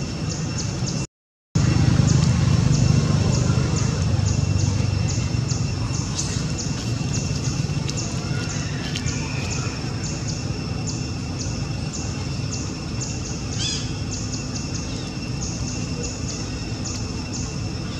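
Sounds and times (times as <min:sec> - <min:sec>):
high-pitched drone: 0:01.6 - 0:17.9.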